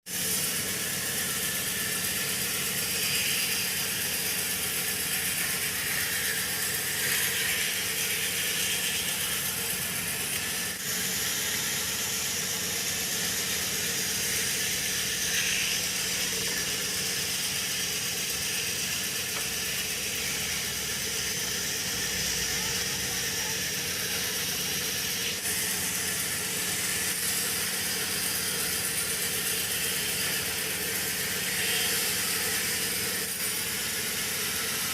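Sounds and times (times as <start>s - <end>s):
hissing rattling noise: 0.1s - 34.9s
sawmill machinery humming: 0.1s - 34.9s.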